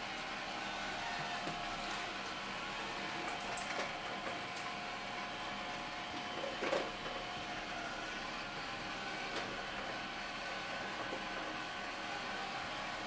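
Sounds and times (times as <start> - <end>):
robot vacuum motor humming: 0.0 - 13.0.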